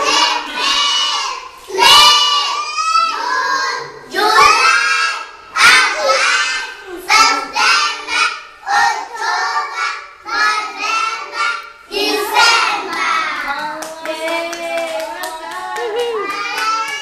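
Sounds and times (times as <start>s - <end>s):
children singing together: 0.0s - 13.6s, 15.3s - 17.0s.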